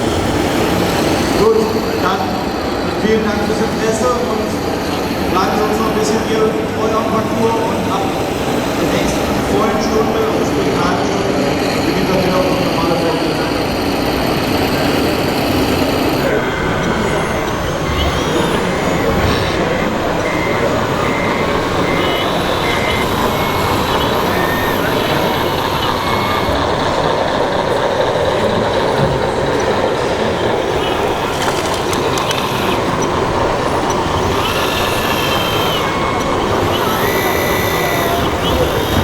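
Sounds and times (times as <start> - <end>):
background chatter: 0.0 - 39.0
model truck diesel engine noise: 0.0 - 39.0
reversing beeper pulsing: 0.0 - 39.0.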